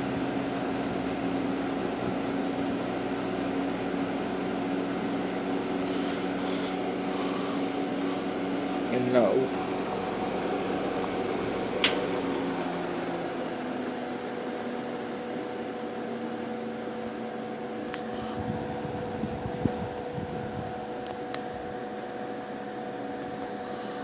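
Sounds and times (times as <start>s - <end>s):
window fan motor hum: 0.0s - 24.0s.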